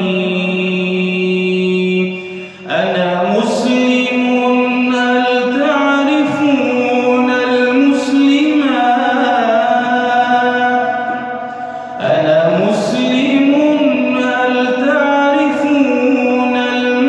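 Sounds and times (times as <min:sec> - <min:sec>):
man singing long notes: 0:00.0 - 0:17.0.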